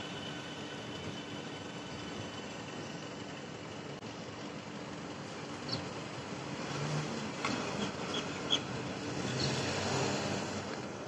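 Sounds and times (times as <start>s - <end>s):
car engines and tyre noise: 0.0s - 11.0s
van passing close: 0.0s - 11.0s.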